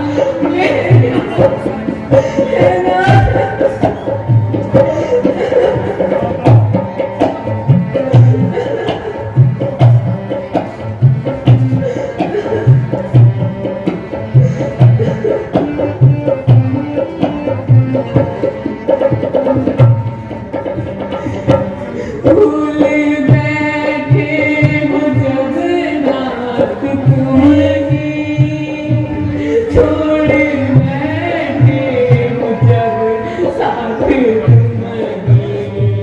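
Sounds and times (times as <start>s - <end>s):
hand drum beating: 0.0s - 36.0s.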